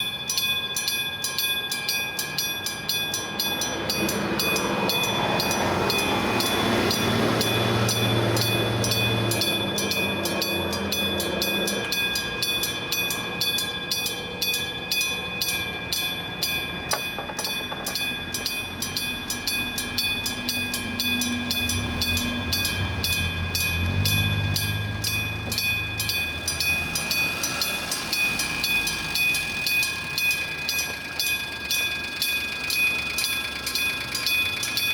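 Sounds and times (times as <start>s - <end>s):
electric train rumbling past: 0.0s - 34.9s
level crossing bell ringing: 0.0s - 34.9s.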